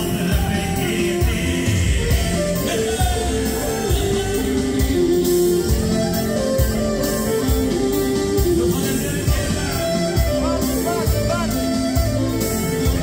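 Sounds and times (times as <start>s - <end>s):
band dance music: 0.0s - 13.0s
clarinet melody: 1.1s - 13.0s.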